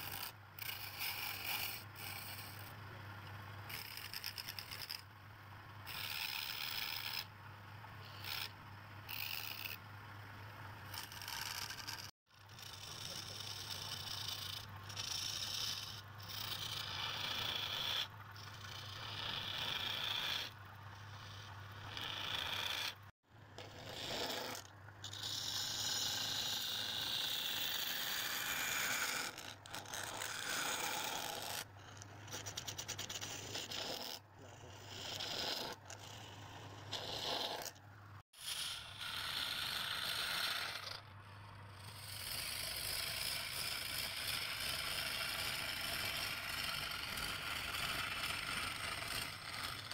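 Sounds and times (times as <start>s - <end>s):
tool scraping spinning wood: 0.0s - 5.1s, 5.8s - 37.8s, 38.4s - 49.9s.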